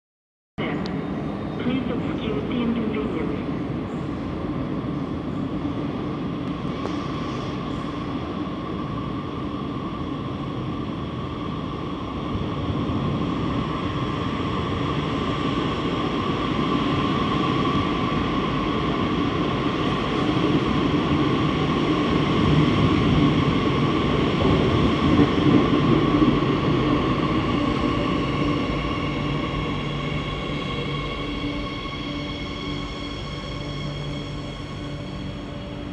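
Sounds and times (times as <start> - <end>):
electric train rumble and whine: 0.6 - 35.9.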